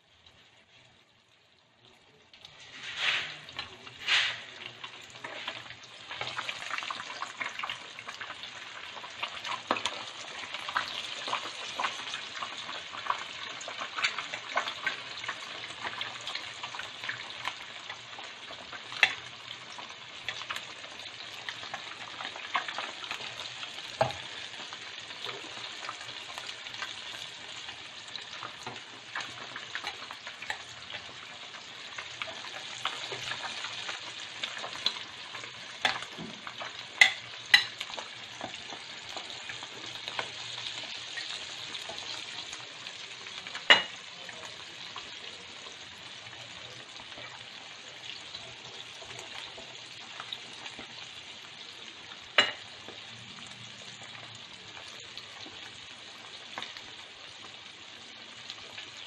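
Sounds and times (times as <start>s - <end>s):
chicken deep-frying in oil: 0.0s - 59.0s
oil popping and crackling: 1.9s - 59.0s.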